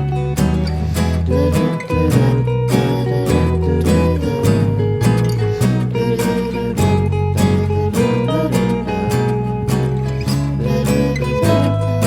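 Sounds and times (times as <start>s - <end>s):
held melody line: 0.0s - 12.0s
steady bass notes: 0.0s - 12.0s
strummed acoustic guitar: 0.0s - 12.0s.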